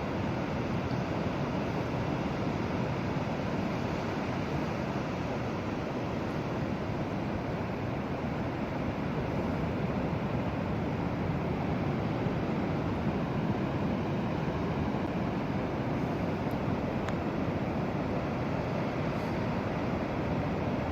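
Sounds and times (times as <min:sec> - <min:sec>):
surf washing on beach: 0:00.0 - 0:20.9.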